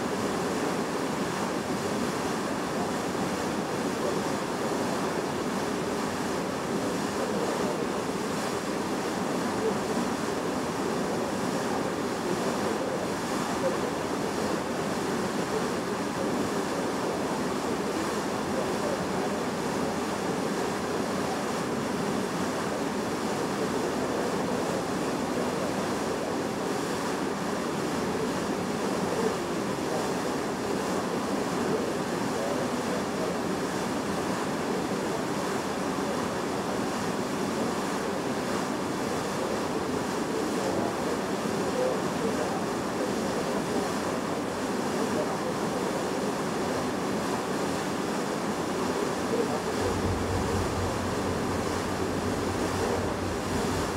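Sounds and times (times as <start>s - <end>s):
sea water rushing along ship: 0.0s - 53.9s
wind: 0.0s - 53.9s.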